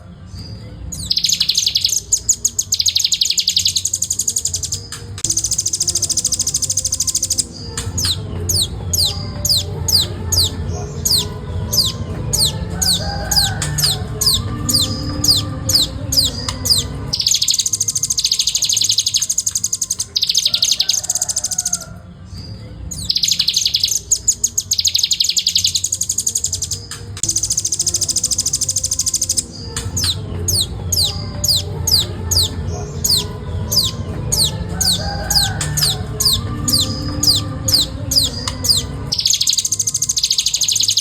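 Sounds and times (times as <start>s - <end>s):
bird trilling: 0.9s - 22.1s, 22.9s - 41.0s.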